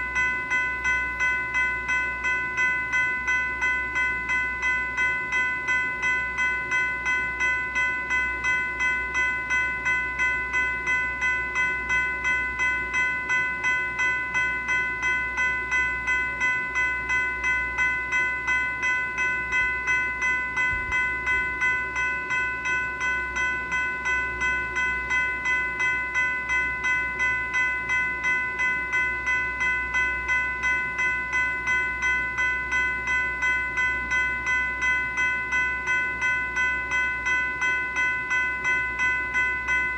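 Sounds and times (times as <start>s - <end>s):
electronic bell ringing: 0.0s - 39.9s.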